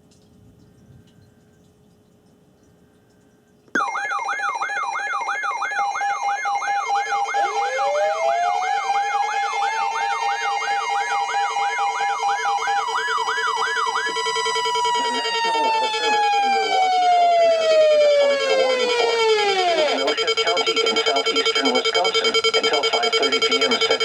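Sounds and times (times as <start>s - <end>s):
siren wailing up and down: 3.8s - 24.0s
siren winding up: 3.8s - 24.0s.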